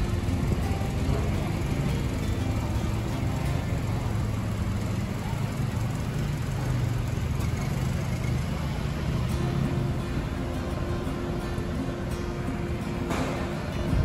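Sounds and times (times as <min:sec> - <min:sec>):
road noise: 0:00.0 - 0:14.0
vehicle engine running: 0:00.0 - 0:14.0.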